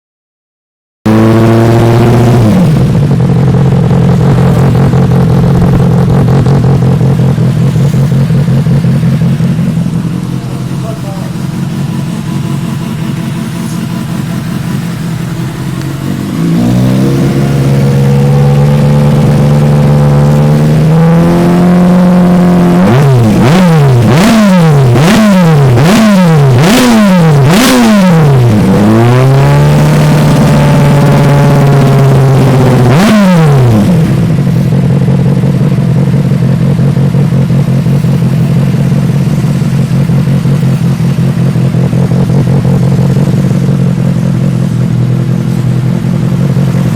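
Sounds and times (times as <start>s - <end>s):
motorcycle engine revving: 1.1s - 46.9s.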